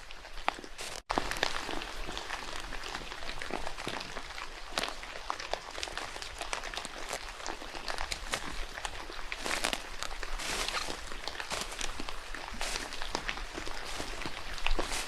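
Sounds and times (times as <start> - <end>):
raindrops ticking on leaves: 0.0 - 15.0.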